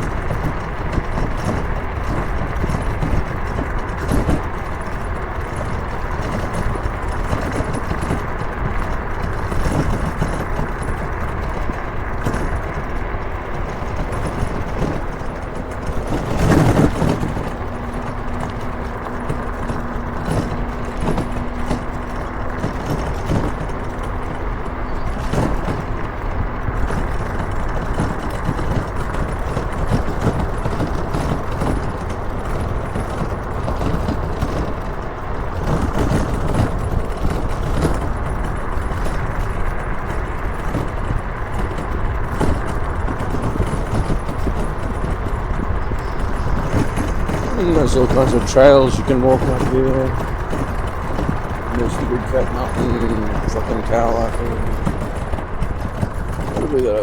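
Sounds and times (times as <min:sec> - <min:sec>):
motorcycle engine: 0:00.0 - 0:57.0
road and wind noise: 0:00.0 - 0:57.0.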